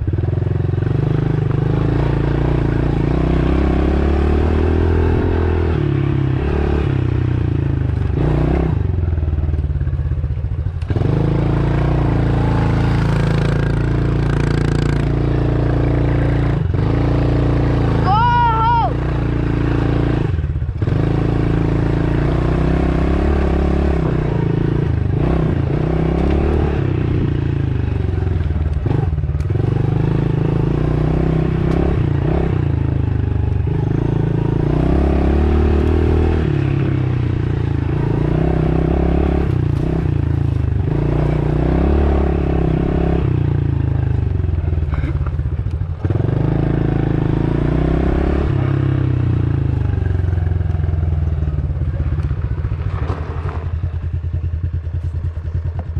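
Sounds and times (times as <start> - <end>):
dirt bike engine revving: 0.1 - 9.1, 10.8 - 45.3, 46.0 - 50.5.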